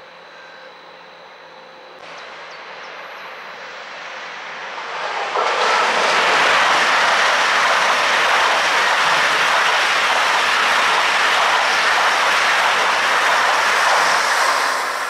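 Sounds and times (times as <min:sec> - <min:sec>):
high-speed train passing: 0:01.8 - 0:15.0.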